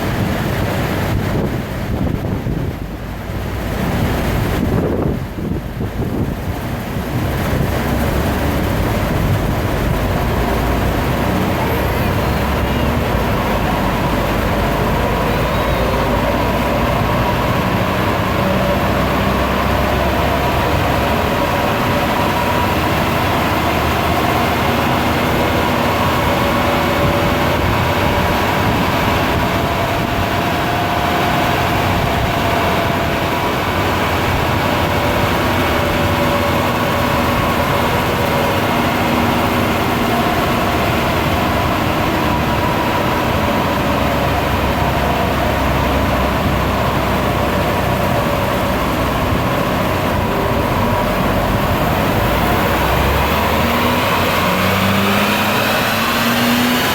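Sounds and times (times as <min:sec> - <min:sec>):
diesel car engine humming: 0:00.0 - 0:56.9.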